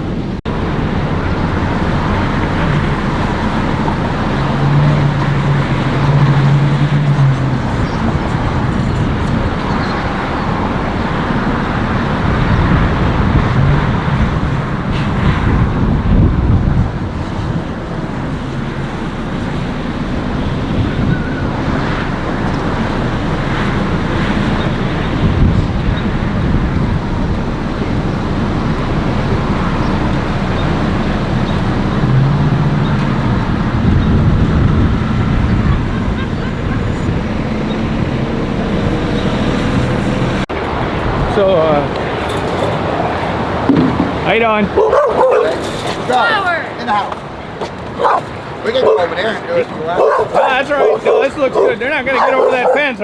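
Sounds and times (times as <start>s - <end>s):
low rumbling noise: 0.0s - 46.2s
road traffic noise: 0.0s - 53.0s.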